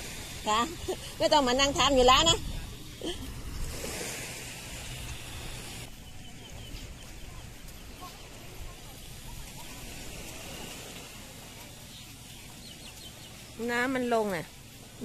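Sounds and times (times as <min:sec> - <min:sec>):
small waves lapping on shore: 0:00.0 - 0:15.0.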